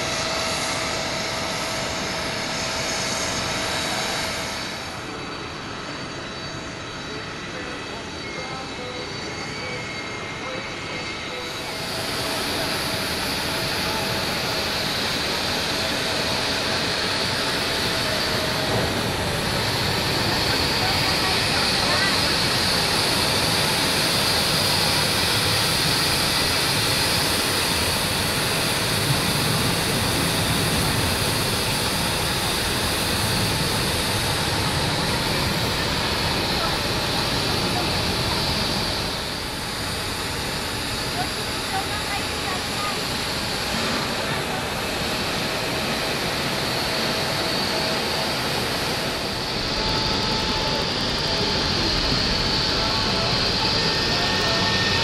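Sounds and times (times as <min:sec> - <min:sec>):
jet aircraft whine: 0:00.0 - 0:55.0.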